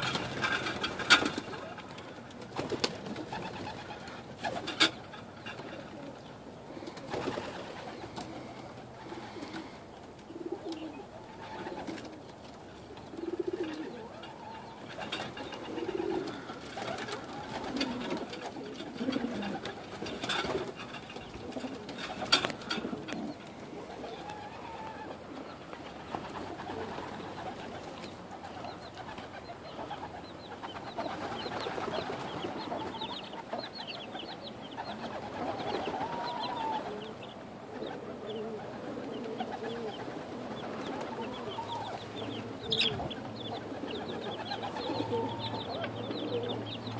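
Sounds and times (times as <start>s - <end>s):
chicks peeping: 0.0s - 46.9s
pigeons cooing: 0.0s - 46.9s.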